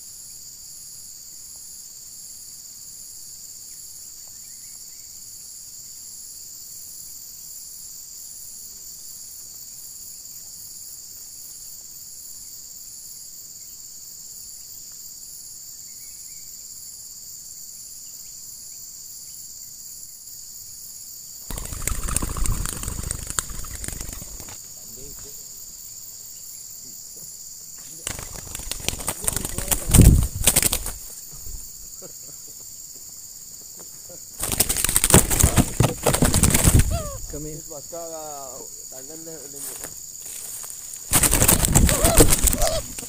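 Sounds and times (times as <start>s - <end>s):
high-pitched insect chorus: 0.0s - 43.0s
shrill pulsing insect call: 0.0s - 43.0s.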